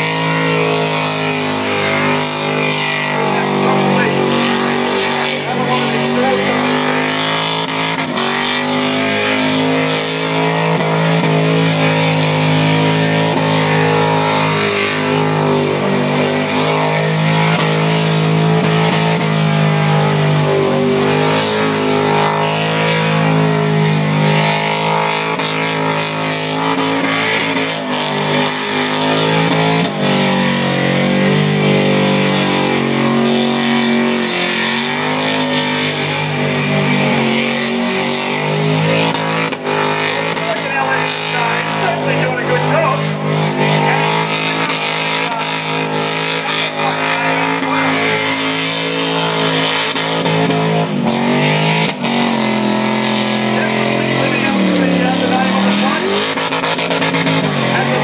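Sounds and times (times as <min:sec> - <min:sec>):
car engine revving high: 0:00.0 - 0:58.0
spinning tyres hissing: 0:00.0 - 0:58.0.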